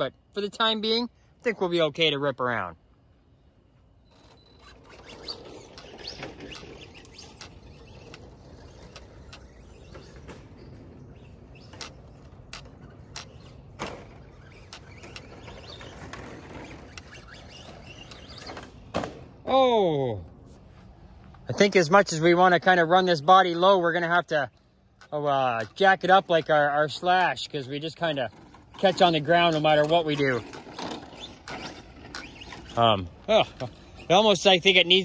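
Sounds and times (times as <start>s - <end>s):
rc car motor and tyres on dirt: 3.9s - 19.4s, 21.2s - 35.0s.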